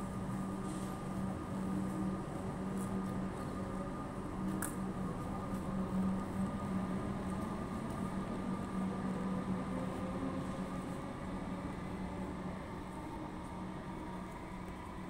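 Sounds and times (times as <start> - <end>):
low mechanical hum with whine: 0.0 - 15.0.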